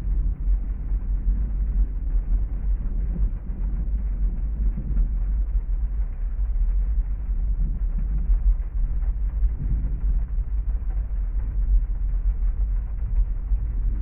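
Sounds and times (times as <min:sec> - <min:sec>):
heavy rain on a car roof: 0:00.0 - 0:14.0.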